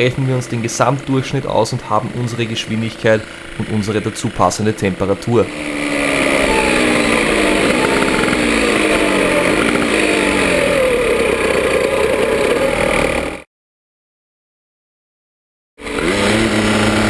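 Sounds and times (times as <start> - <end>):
moped two-stroke engine running: 0.0 - 13.5, 15.8 - 17.0.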